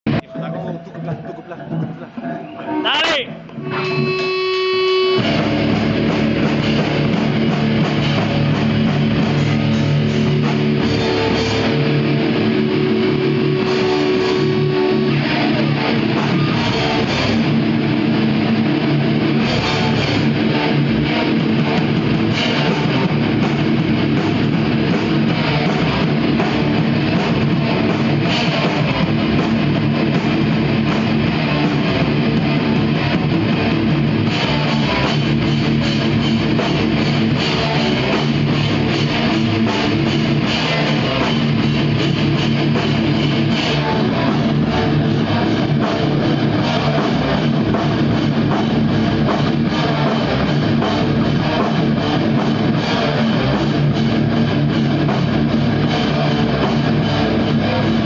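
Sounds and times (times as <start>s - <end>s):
drum kit: 0.0s - 58.0s
electric guitar: 1.9s - 58.0s.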